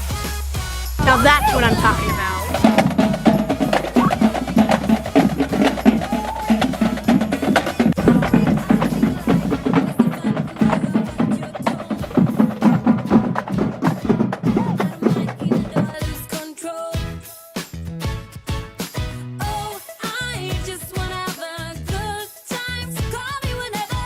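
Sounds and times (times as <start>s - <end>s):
upbeat instrumental pop music: 0.0s - 24.0s.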